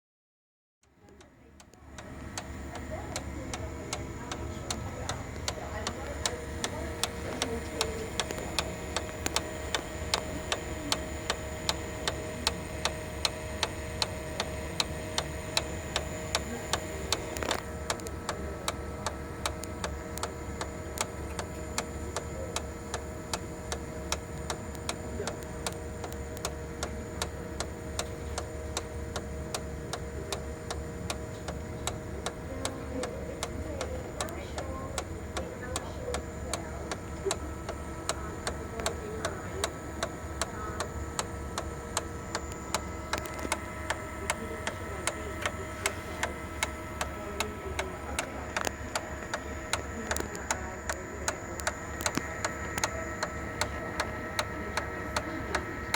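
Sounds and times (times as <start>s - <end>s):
copier gears ticking: 0.8s - 55.9s
copier whine: 0.8s - 55.9s.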